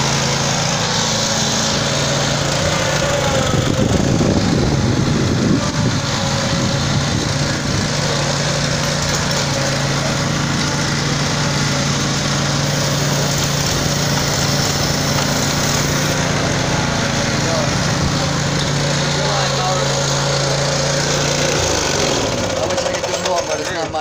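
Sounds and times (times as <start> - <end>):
small gasoline engine running: 0.0 - 24.0.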